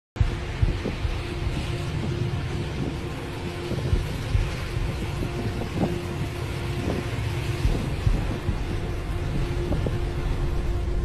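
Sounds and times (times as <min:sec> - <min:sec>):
wind buffeting microphone: 0:00.2 - 0:11.0.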